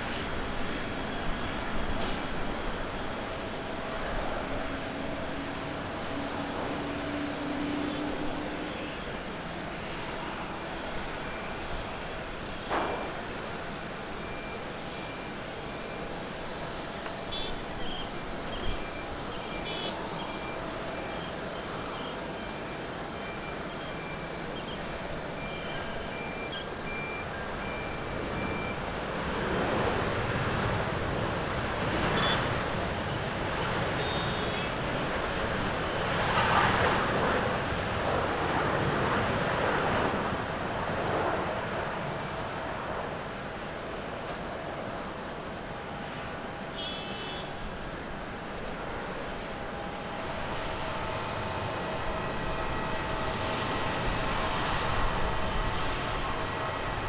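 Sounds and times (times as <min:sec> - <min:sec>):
jet engine rush: 0:00.0 - 0:57.0.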